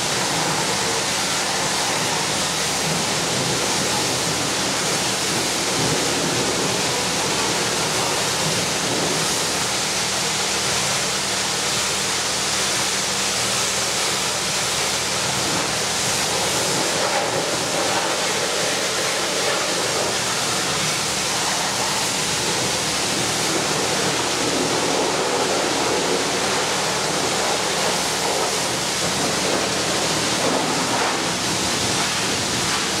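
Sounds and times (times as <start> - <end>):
pressure washer water spray hissing: 0.0 - 33.0.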